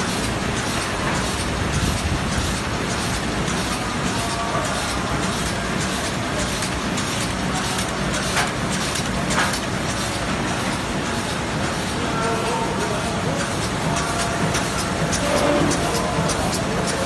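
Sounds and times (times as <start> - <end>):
rapid mechanical clicks: 0.0 - 12.1, 12.9 - 17.0
laminating machine running: 0.0 - 17.0.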